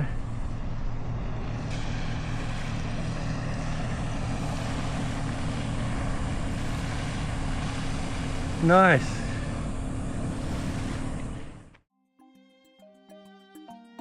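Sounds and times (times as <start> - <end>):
motor humming with hiss: 0.0 - 11.8.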